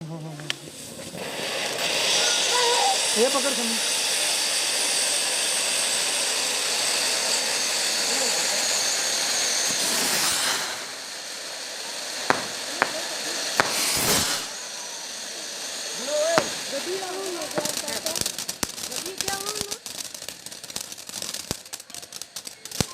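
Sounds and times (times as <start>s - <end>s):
firework spraying with whistling hiss: 0.0s - 22.9s
firework cracks: 0.3s - 22.9s
firework whoosh: 0.3s - 22.9s.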